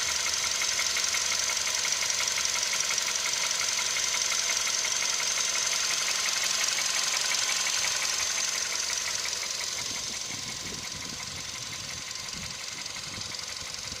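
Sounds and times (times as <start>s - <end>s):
car engine idling with knock: 0.0s - 14.0s.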